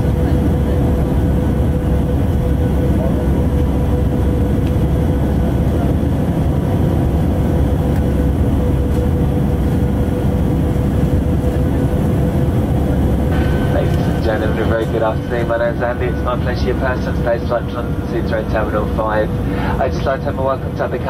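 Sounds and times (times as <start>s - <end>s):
airliner cabin roar: 0.0s - 21.0s.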